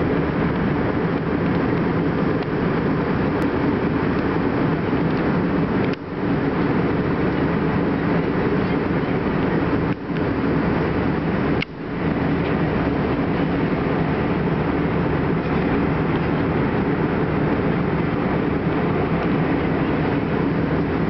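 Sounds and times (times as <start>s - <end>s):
jet airliner cabin noise: 0.0s - 21.0s.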